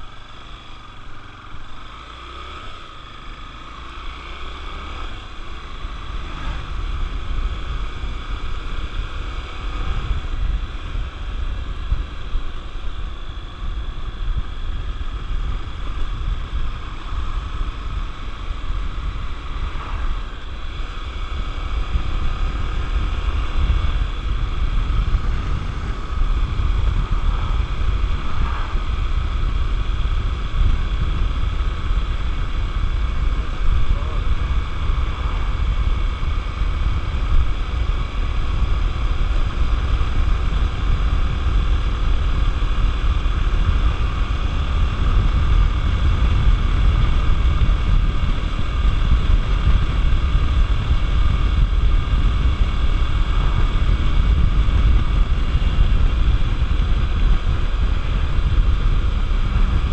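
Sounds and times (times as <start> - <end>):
motorcycle engine running: 0.0 - 59.9
wind buffeting microphone: 5.2 - 59.9.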